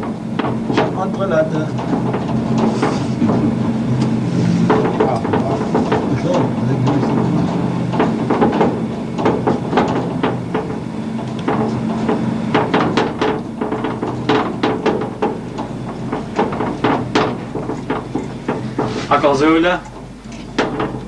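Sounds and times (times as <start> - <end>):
mine cage rattling: 0.0 - 21.0
sharp knocks on guide rails: 0.0 - 21.0
steady low hum: 0.0 - 21.0.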